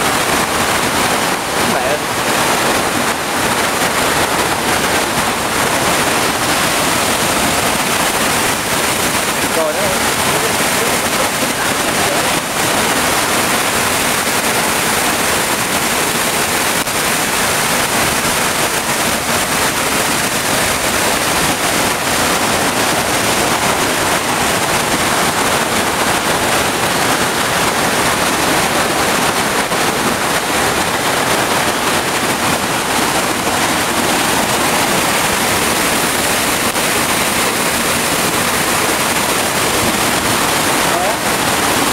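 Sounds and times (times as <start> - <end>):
waterfall rushing onto rocks: 0.0 - 41.9.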